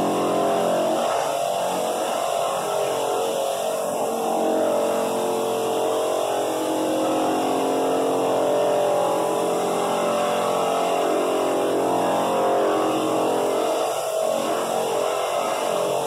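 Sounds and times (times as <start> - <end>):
floor sander running: 0.0 - 16.0
shop vac running: 0.0 - 16.0.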